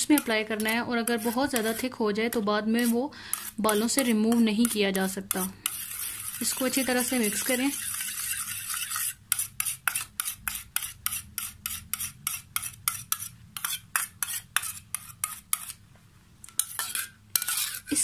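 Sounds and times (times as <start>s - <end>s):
metal spoon scraping steel bowl: 0.0s - 15.8s, 16.4s - 18.0s.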